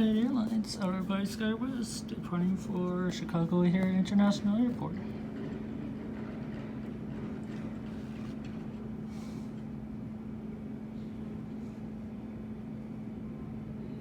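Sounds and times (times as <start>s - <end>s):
jet airliner idling: 0.0s - 14.0s.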